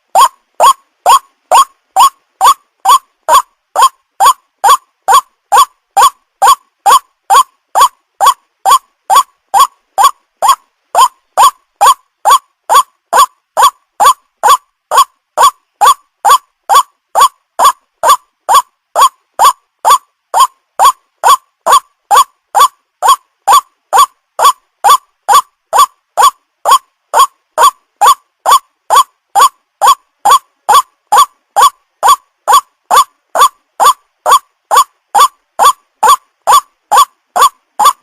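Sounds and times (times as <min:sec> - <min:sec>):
waterhen calling: 0:00.0 - 0:38.0.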